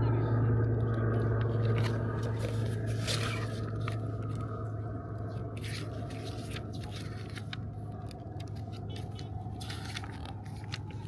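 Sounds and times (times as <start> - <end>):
steady low hum: 0.0 - 11.0
rustling and scraping of handling: 0.7 - 11.0.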